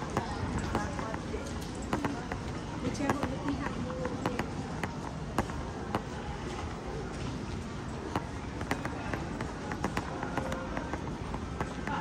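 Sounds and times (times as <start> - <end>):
chatter of many people: 0.0 - 12.0.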